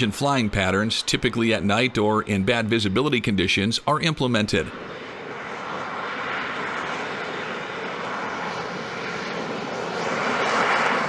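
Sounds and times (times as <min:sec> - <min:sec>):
jet roar of hovering aircraft: 0:00.0 - 0:11.0.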